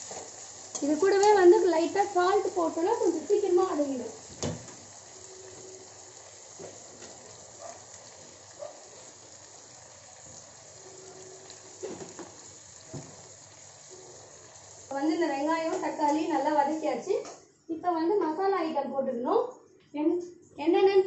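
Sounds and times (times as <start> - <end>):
vegetables sizzling in hot oil: 0.0 - 16.9.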